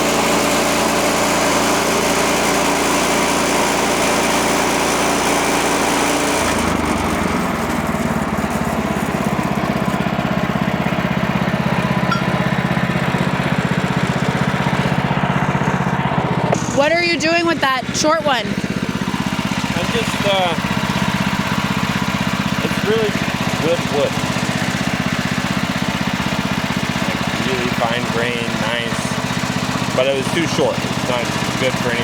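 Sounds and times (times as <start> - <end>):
small gas engine running: 0.0 - 32.0.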